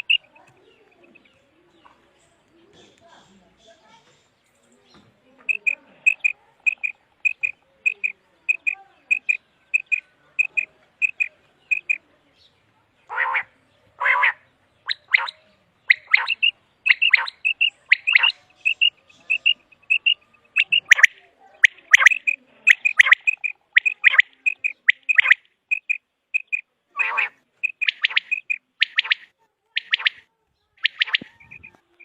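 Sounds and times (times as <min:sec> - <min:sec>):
quail chirping calls: 0:00.0 - 0:02.0, 0:05.4 - 0:12.1, 0:13.0 - 0:30.2, 0:30.8 - 0:32.0.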